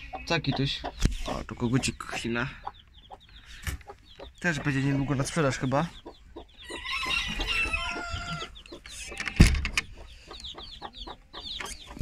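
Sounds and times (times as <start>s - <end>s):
chickens crowing and clucking: 0.0s - 12.0s.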